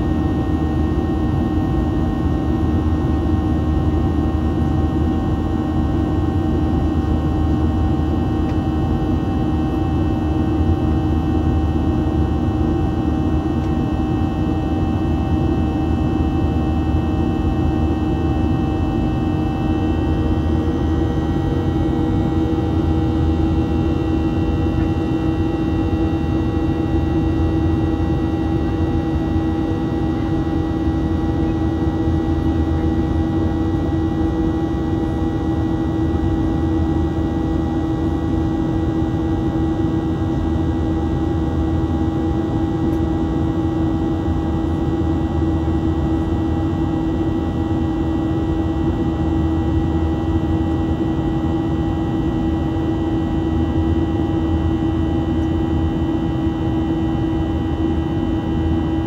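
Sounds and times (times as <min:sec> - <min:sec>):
constant hum: 0:00.0 - 0:59.0
jet engine and airflow drone: 0:00.0 - 0:59.0.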